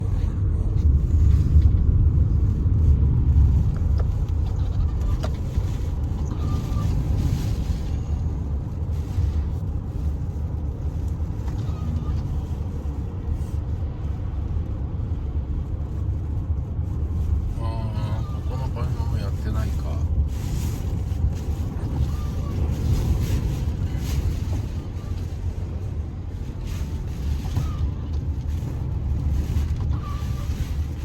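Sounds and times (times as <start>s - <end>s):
wind buffeting the microphone: 0.0s - 17.5s, 20.1s - 31.0s.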